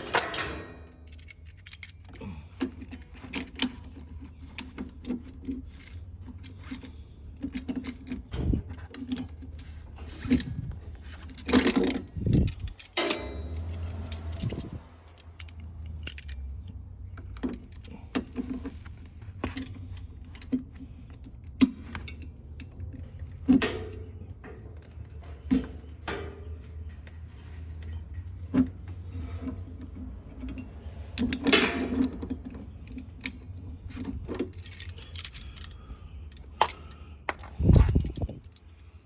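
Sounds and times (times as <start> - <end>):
metal tools clinking: 0.0 - 39.0.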